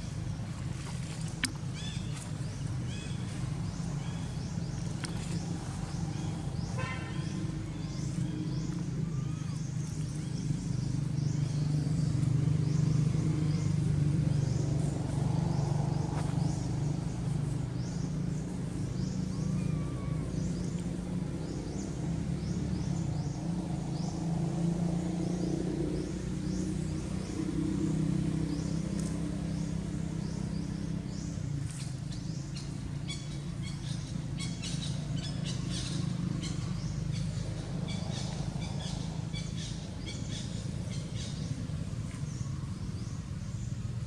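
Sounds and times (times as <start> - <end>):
low rumble of motor vehicles: 0.0 - 44.0.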